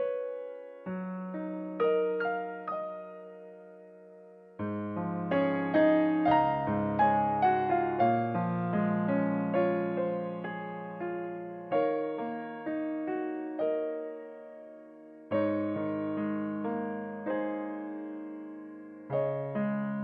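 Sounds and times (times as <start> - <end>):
slow gentle piano: 0.0 - 20.0.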